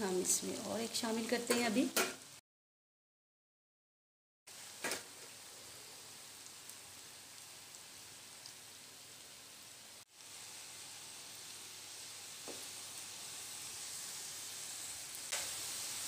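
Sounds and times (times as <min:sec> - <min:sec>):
fries sizzling in a frying pan: 0:00.0 - 0:02.4, 0:04.5 - 0:16.0.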